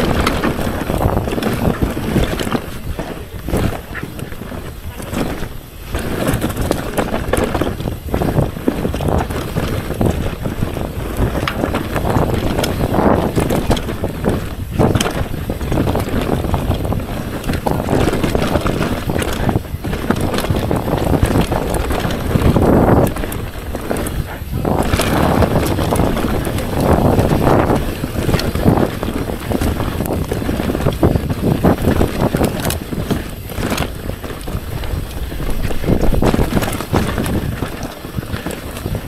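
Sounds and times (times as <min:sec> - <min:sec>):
bike knocking and rattling: 0:00.0 - 0:39.0
tyres rolling over dirt: 0:00.0 - 0:39.0
wind buffeting microphone: 0:00.0 - 0:39.0.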